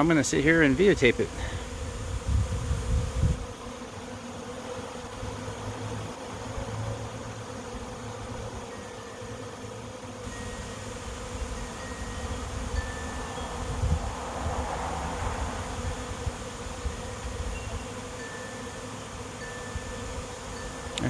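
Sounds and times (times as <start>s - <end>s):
bee swarm buzzing: 0.0s - 21.0s.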